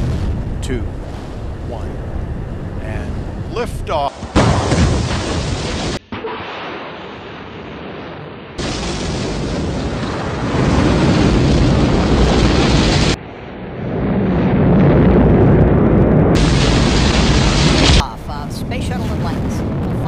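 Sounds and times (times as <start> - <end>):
rocket engine roar: 0.0 - 20.0.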